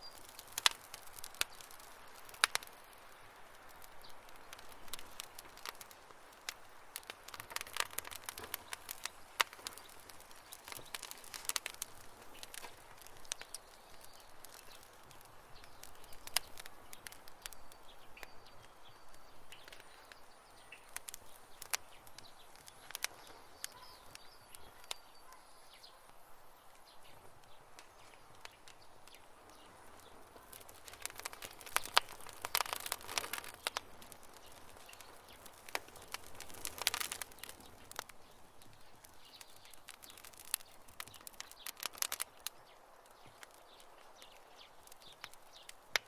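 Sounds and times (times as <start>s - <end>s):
campfire crackling and popping: 0.0s - 46.0s
soft fire hiss: 0.0s - 46.0s.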